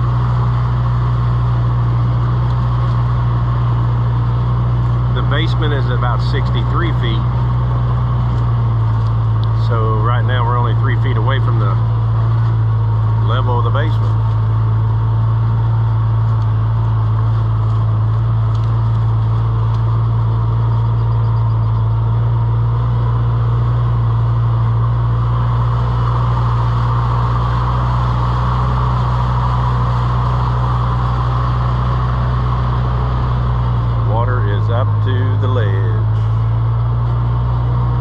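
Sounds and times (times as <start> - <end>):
engine humming: 0.0 - 38.0.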